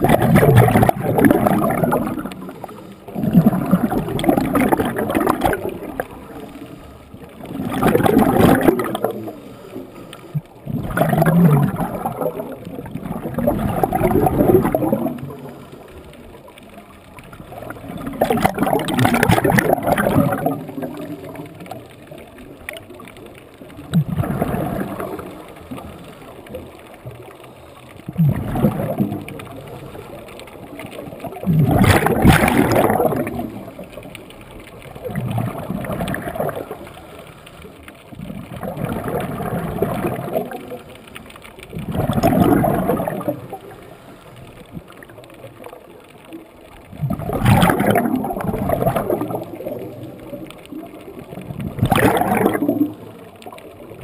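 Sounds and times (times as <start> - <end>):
exhaled bubbles rushing: 0.0 - 54.0.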